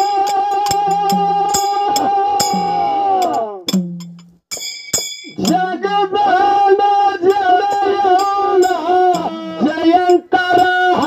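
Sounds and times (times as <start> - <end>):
man singing folk song: 0.0 - 3.6, 5.4 - 11.0
sharp percussion strikes: 0.0 - 6.0, 7.2 - 11.0.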